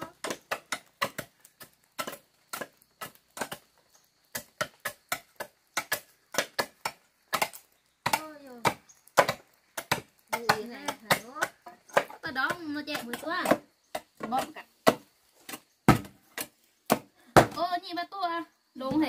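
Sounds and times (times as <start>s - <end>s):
chopping on wooden planks: 0.0s - 17.6s.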